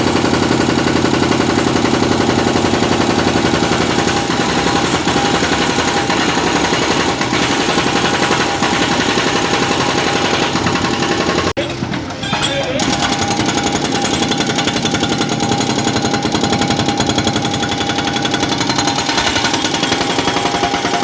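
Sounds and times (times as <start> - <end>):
engine running: 0.0 - 12.1, 12.7 - 21.0
jackhammer pounding concrete: 0.0 - 21.0.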